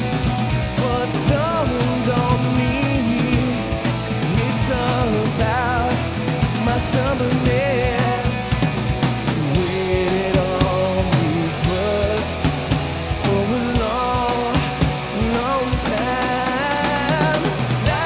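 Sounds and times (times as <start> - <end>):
bass guitar: 0.0 - 18.0
electric guitars: 0.0 - 18.0
steady drum beat: 0.0 - 18.0.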